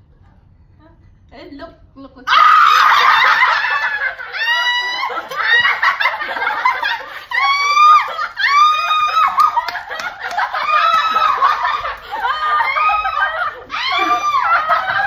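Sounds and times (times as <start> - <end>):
women screaming: 2.3 - 15.0
women laughing: 2.4 - 15.0.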